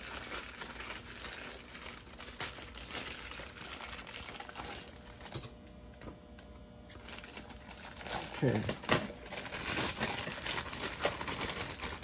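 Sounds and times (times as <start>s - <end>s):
plastic bag crinkling: 0.0s - 5.4s, 6.9s - 12.0s.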